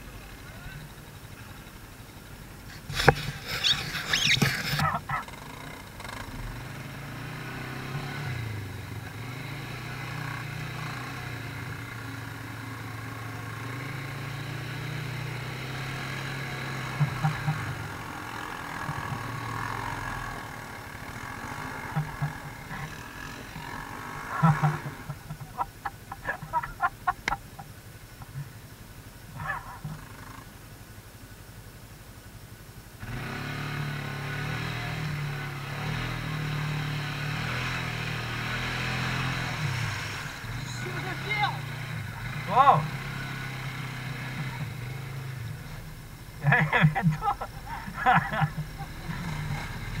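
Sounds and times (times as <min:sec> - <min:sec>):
engine rough bursts: 0:00.0 - 0:30.9, 0:33.0 - 0:50.0
quad bike engine droning: 0:00.0 - 0:31.5, 0:32.1 - 0:50.0.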